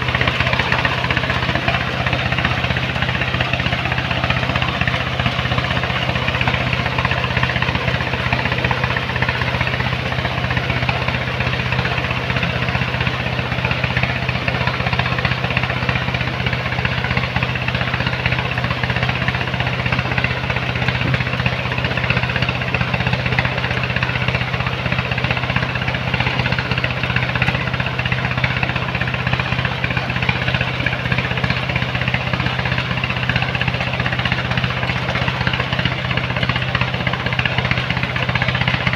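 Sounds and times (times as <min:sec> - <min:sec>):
mining machinery engine running: 0:00.0 - 0:38.9.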